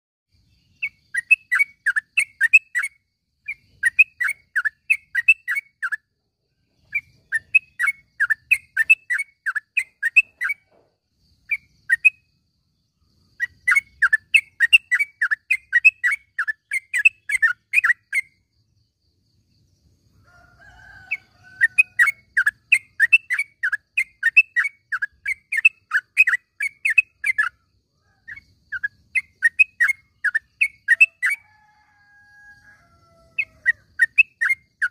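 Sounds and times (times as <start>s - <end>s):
bird chattering chirps: 0.5s - 12.4s, 13.1s - 18.5s, 21.1s - 31.4s, 33.4s - 34.9s.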